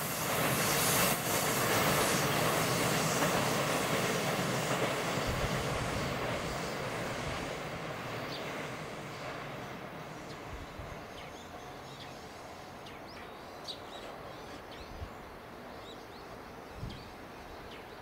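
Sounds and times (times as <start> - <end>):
electric train rumble: 0.0 - 18.0.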